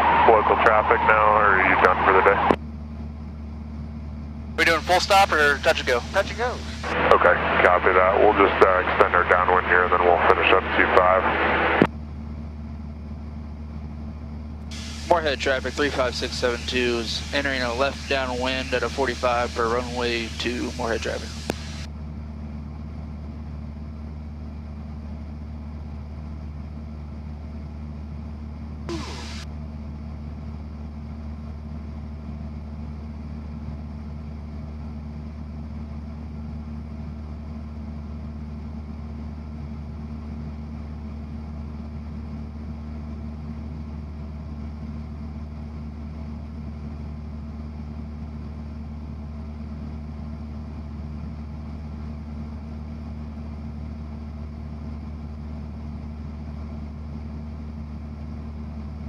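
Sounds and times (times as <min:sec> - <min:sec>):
airplane engine and propeller droning: 0:00.0 - 0:59.0.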